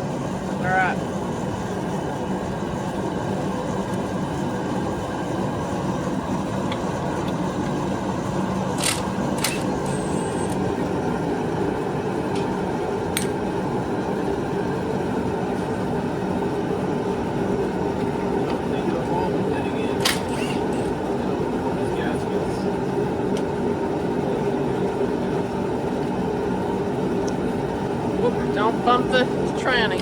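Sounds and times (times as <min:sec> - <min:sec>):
space heater whirring: 0:00.0 - 0:30.0.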